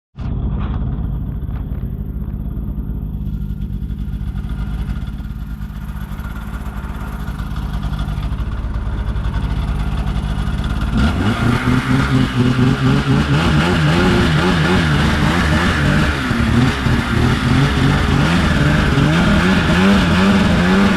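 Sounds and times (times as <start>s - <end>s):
snowmobile engine running: 0.2s - 20.9s.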